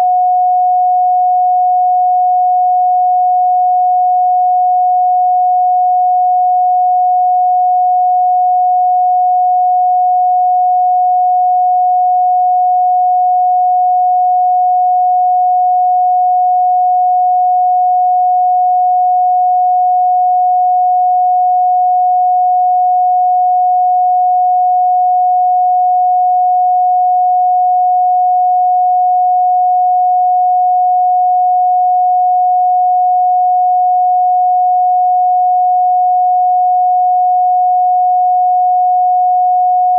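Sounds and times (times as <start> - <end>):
pure sine tone: 0.0 - 39.9.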